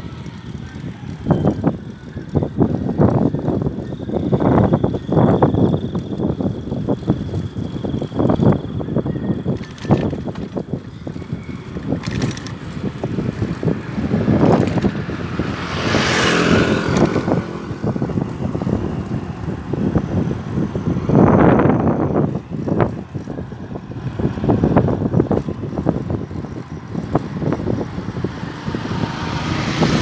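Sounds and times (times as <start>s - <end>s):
bicycle road rumble: 0.0s - 30.0s
wind rushing over microphone: 0.0s - 30.0s.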